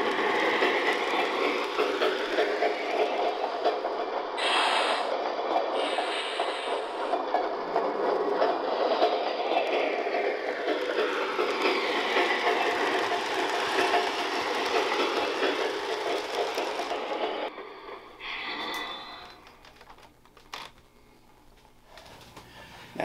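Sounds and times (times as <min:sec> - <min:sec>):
model train running: 0:00.0 - 0:20.0
rolling freight car sounds: 0:00.0 - 0:20.2.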